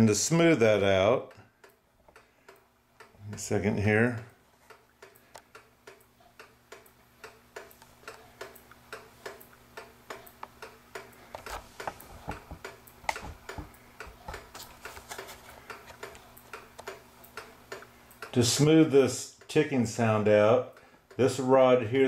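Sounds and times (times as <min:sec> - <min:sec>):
pendulum clock ticking: 0:00.0 - 0:22.0.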